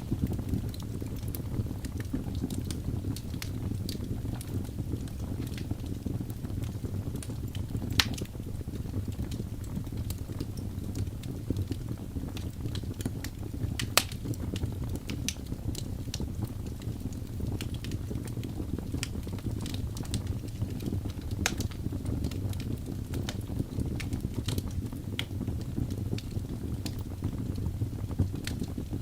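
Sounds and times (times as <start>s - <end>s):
fire rumbling: 0.0s - 29.0s
wood fire crackling and popping: 0.0s - 29.0s.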